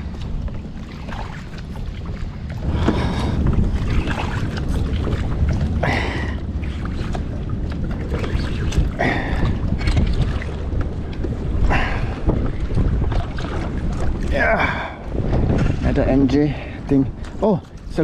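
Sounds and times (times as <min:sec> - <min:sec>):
water splashes: 0:00.0 - 0:18.0
wind buffeting microphone: 0:00.0 - 0:18.0.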